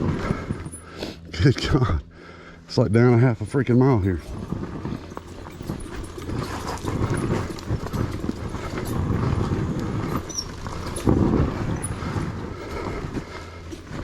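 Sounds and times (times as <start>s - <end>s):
bike knocking and rattling: 0.0s - 1.8s, 2.9s - 14.0s.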